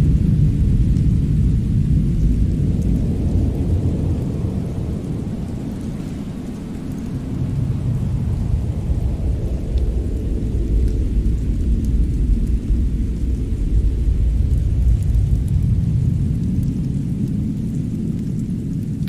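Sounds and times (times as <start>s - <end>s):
fireplace fire rumbling: 0.0s - 19.0s.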